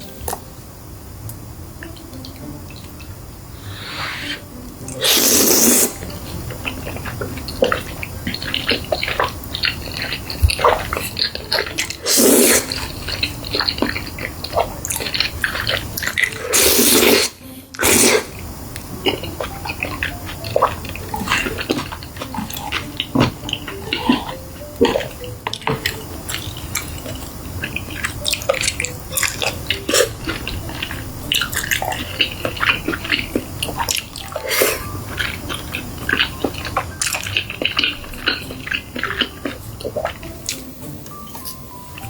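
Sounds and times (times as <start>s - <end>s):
person chewing: 1.8s - 42.0s.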